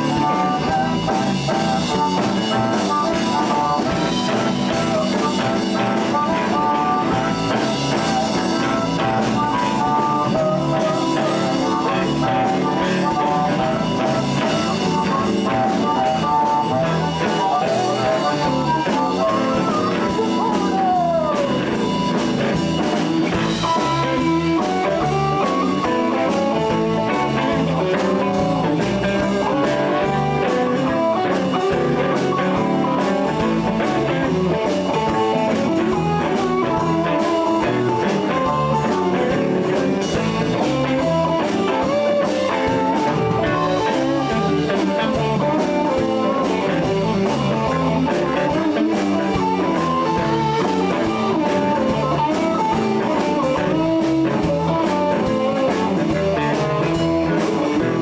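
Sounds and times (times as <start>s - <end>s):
bass guitar: 0.0s - 58.0s
drum kit: 0.0s - 58.0s
lead guitar: 0.0s - 58.0s.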